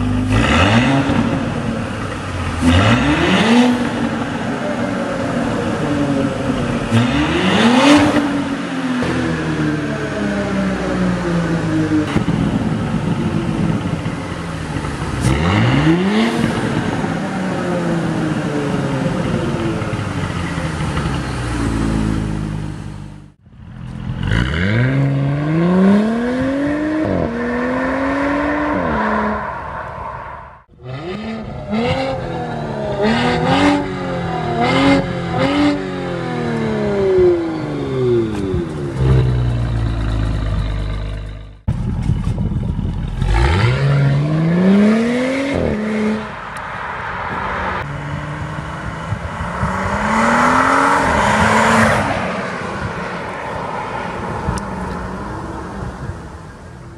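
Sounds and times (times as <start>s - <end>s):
car engine revving and accelerating: 0.0s - 23.0s, 24.0s - 41.4s, 43.2s - 56.6s.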